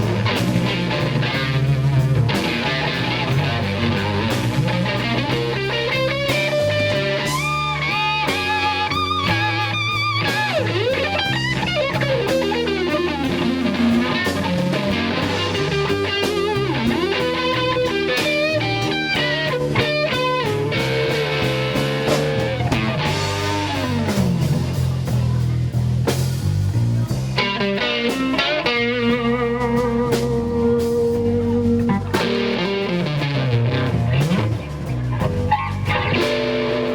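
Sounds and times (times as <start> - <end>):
electric guitar solo: 0.0 - 24.9, 27.4 - 36.9
bass guitar: 0.0 - 36.9
drums: 0.0 - 36.9.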